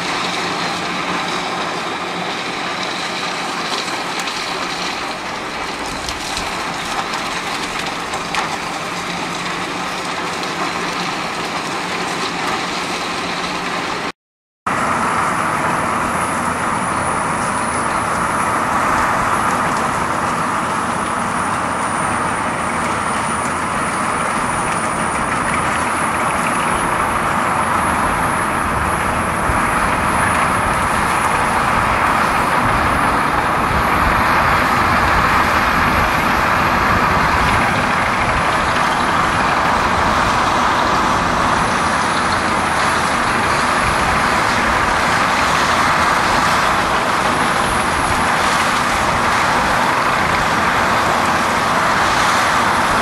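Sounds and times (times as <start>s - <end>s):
heavy machinery drone: 0.0s - 14.1s, 14.7s - 53.0s.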